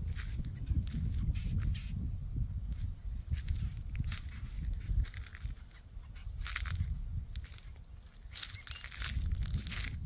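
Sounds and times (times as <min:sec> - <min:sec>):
footsteps on dry dirt and leaves: 0:00.0 - 0:10.0
low rumble on microphone: 0:00.0 - 0:10.0.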